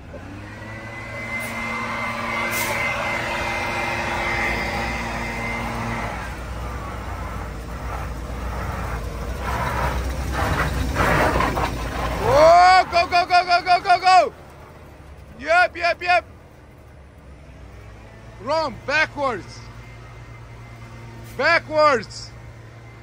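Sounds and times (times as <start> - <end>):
truck diesel engine revving: 0.0 - 23.0.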